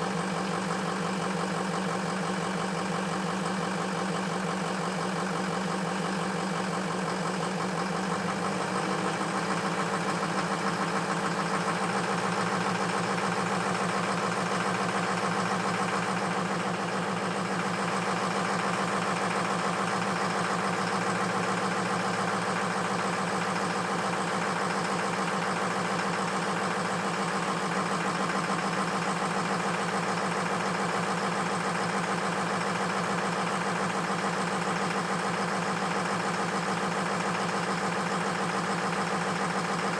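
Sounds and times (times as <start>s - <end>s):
truck engine idling: 0.1s - 39.9s.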